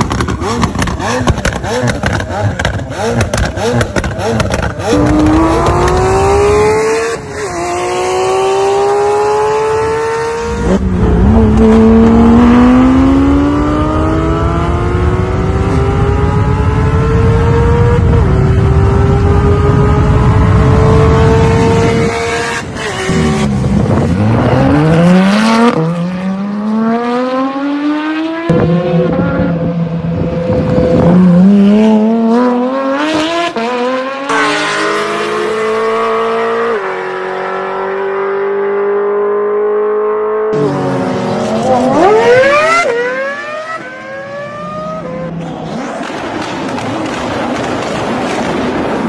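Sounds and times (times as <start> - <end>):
sports car engines accelerating: 0.0 - 47.6.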